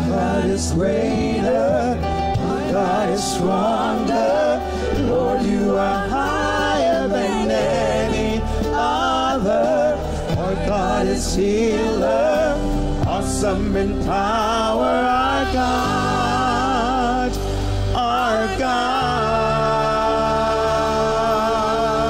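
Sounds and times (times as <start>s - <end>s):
live band with deep bass: 0.0s - 22.0s
man singing lead: 0.0s - 22.0s
women singing backing vocals: 0.0s - 22.0s.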